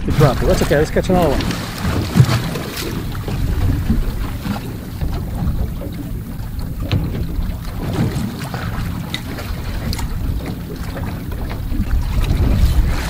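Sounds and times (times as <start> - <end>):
water slapping boat hull: 0.0 - 13.0
wind buffeting microphone: 0.0 - 13.0.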